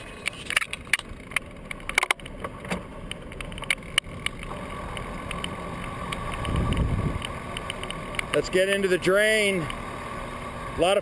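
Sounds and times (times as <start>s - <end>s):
bike clicking and rattling: 0.0s - 9.9s.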